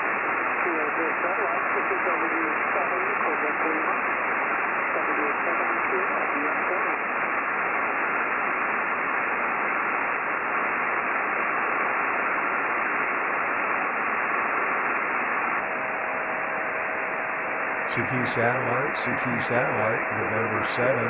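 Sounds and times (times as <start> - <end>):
radio hiss: 0.0 - 9.0, 9.8 - 21.0.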